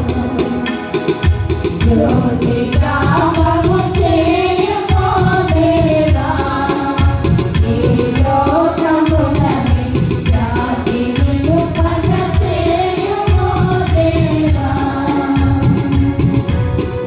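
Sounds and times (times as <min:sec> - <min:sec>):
steady drum beat: 0:00.0 - 0:17.0
voices singing: 0:01.8 - 0:16.2.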